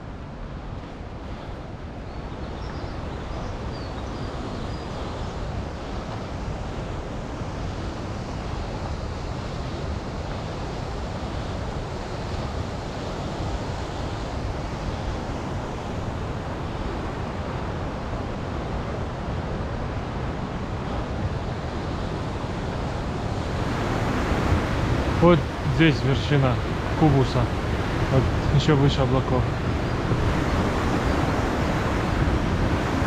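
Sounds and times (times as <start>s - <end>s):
rushing stream water: 0.0s - 33.0s.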